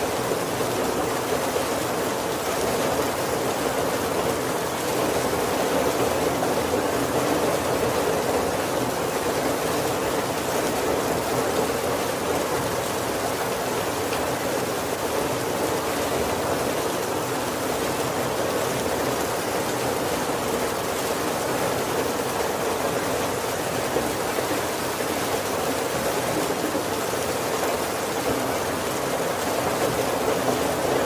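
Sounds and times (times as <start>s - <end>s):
heavy rain on a wooden roof: 0.0s - 31.0s.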